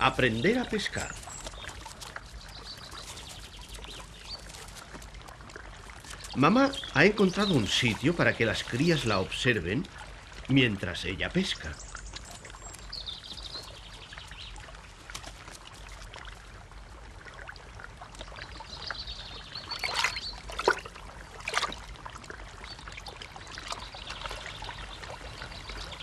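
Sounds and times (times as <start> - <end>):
water lapping among rocks: 0.0 - 10.6, 11.7 - 26.0
water splashes: 0.0 - 26.0.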